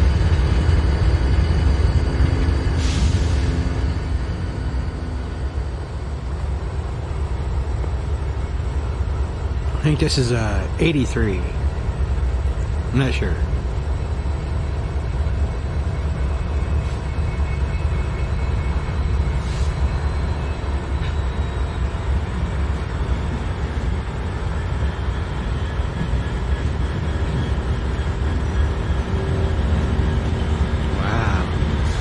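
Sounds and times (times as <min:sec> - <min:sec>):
locomotive engines rumbling: 0:00.0 - 0:32.0.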